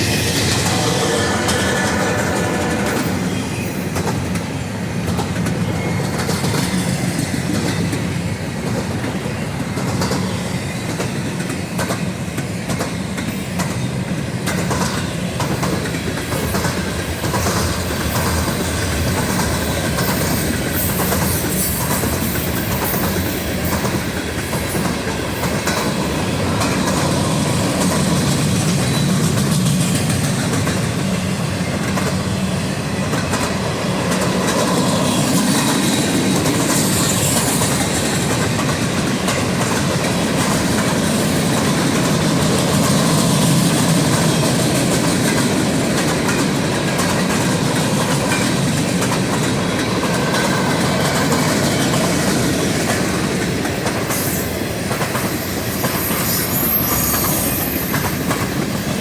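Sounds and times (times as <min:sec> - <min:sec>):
freight train cars rumbling: 0:00.0 - 0:59.0
wheels clicking over rail joints: 0:03.9 - 0:59.0.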